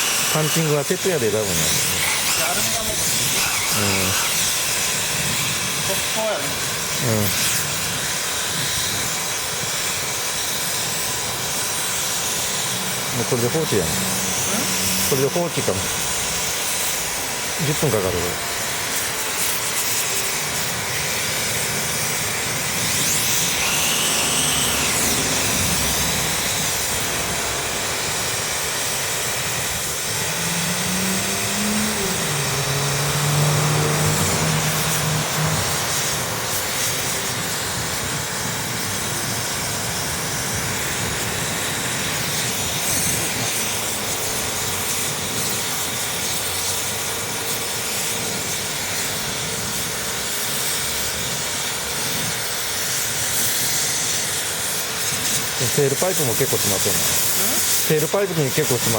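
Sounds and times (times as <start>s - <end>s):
rushing hiss of burning air: 0.0s - 58.9s.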